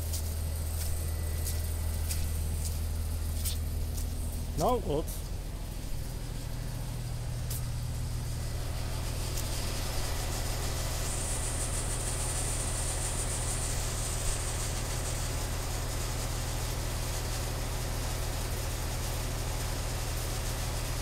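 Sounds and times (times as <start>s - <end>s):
pump engine droning: 0.0s - 21.0s.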